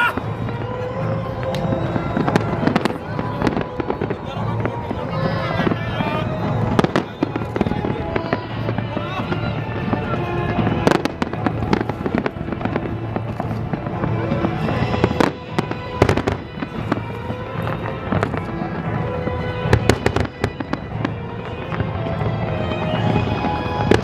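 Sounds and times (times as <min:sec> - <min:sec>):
fireworks bangs and cracks: 0:00.0 - 0:24.0
music playing: 0:00.0 - 0:24.0.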